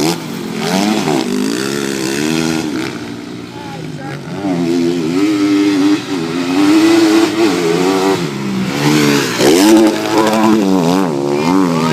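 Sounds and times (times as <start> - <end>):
motorbike engine revving: 0.0 - 11.9.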